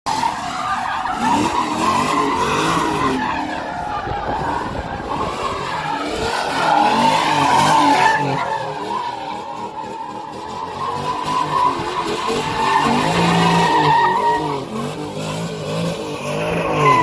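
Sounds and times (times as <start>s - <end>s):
car engine revving: 0.1s - 17.0s
tyres squealing: 0.1s - 17.0s.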